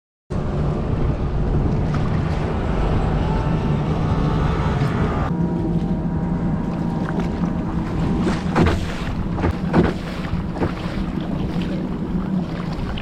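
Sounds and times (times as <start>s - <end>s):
boat engine droning: 0.3s - 13.0s
water splashes: 0.4s - 4.8s, 5.4s - 13.0s.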